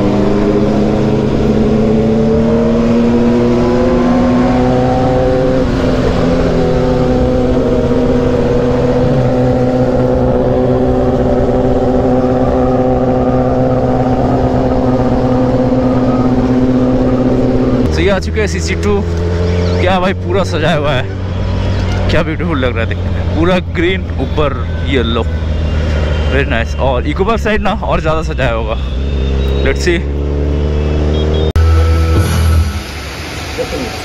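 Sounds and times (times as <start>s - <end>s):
motorcycle engine droning: 0.0s - 34.0s
wind and road noise: 0.0s - 34.0s.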